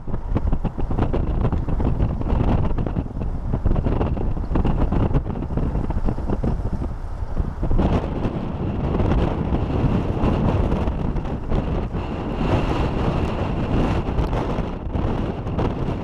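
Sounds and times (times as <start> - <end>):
seawater washing over quayside: 0.0 - 16.0
wind buffeting microphone: 0.0 - 16.0.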